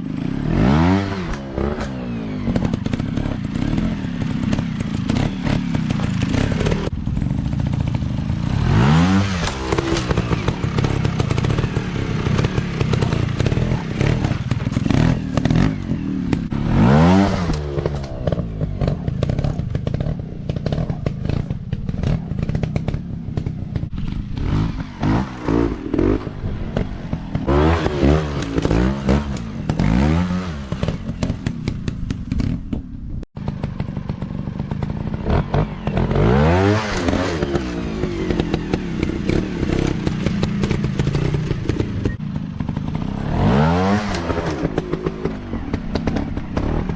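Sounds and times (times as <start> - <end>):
dirt bike engine revving: 0.0 - 32.6, 33.4 - 46.9.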